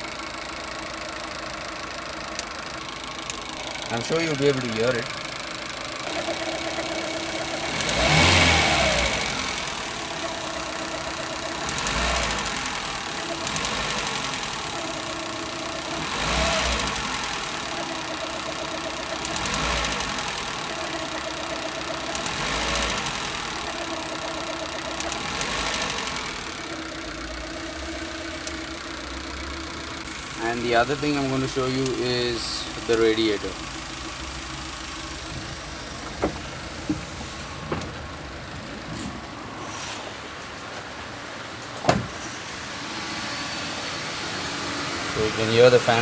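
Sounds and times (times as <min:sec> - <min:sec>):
petrol engine idling and revving: 0:00.0 - 0:46.0.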